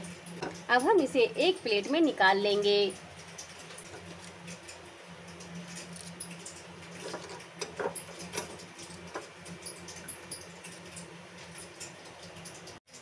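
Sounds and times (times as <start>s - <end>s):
tongs clicking on a metal grate: 0.0s - 13.0s.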